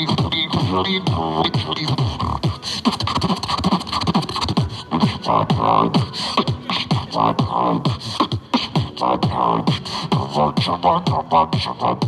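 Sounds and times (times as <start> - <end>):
beatboxing: 0.0 - 12.0.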